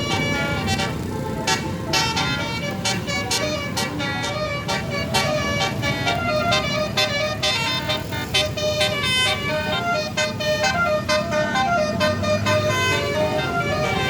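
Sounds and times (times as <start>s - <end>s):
bus musical horn tune: 0.0s - 14.0s.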